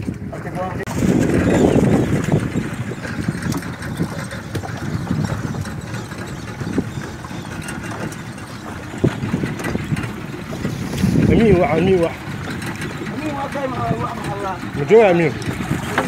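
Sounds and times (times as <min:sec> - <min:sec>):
choppy sea: 0:00.0 - 0:16.0
outboard motor idling: 0:00.0 - 0:16.0.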